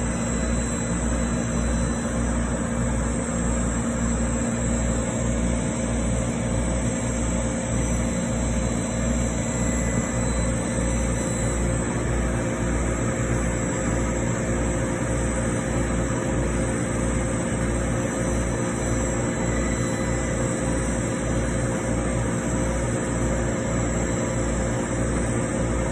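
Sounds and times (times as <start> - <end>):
laser engraver humming and hissing: 0.0 - 25.9.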